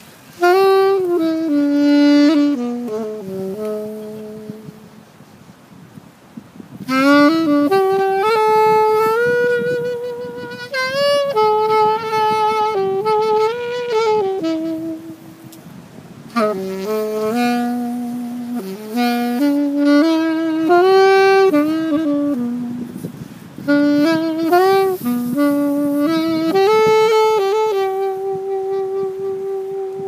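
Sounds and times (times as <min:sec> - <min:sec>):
solo saxophone melody: 0:00.0 - 0:30.0.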